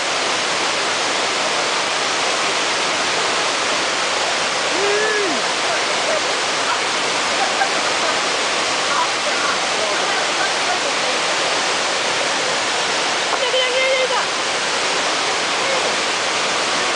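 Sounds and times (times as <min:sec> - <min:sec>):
waterfall splashing over rocks: 0:00.0 - 0:16.9.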